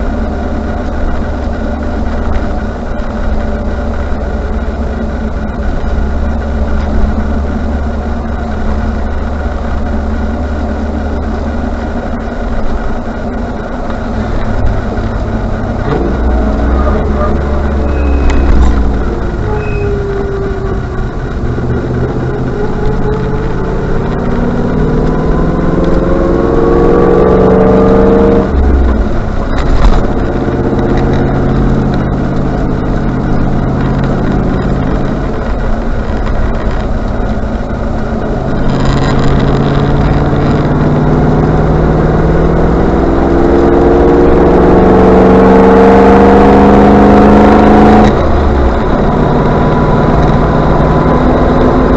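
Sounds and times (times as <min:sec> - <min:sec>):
car engine accelerating: 0:00.0 - 0:51.9.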